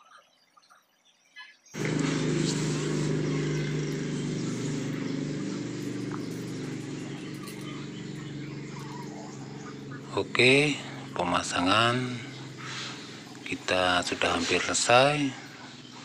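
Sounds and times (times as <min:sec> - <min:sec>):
engine running steadily: 0:01.8 - 0:16.0.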